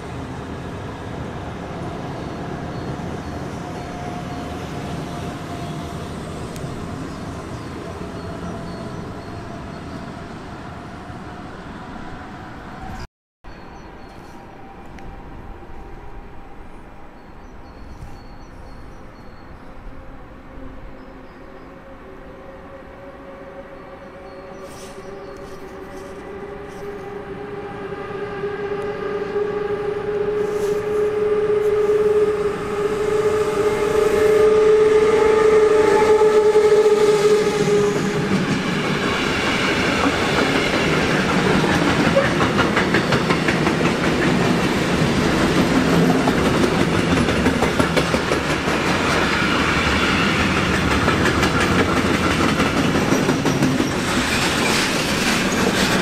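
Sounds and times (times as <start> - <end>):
train passing with high whine: 0.0 - 56.0.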